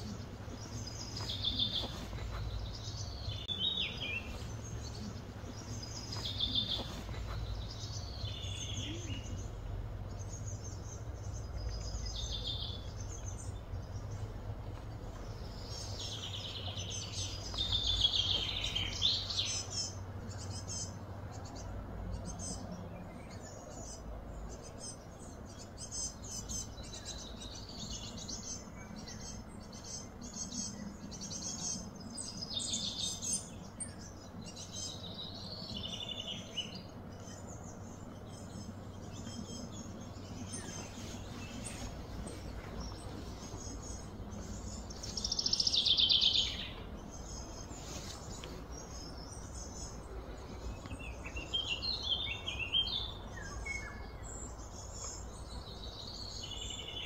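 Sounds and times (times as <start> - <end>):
low background rumble: 0.0 - 57.0
wild birds singing: 0.0 - 57.0.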